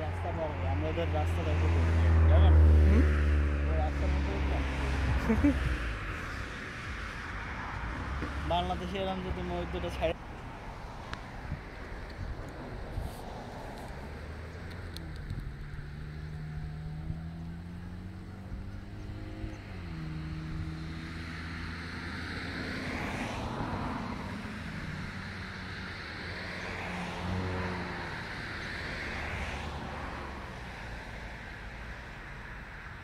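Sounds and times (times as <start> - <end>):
motor vehicle running: 0.0 - 33.0.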